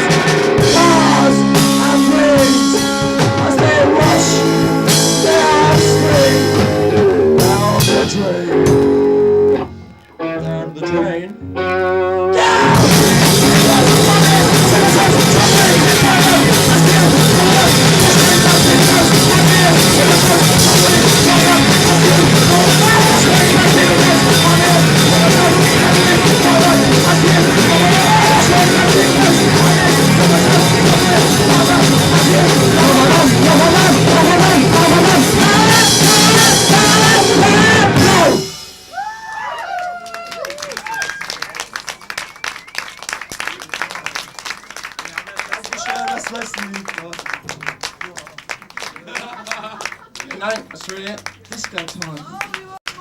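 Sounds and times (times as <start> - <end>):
vocals: 0.0 - 38.6, 45.1 - 48.4, 49.0 - 53.0
rock band playing: 0.0 - 48.1.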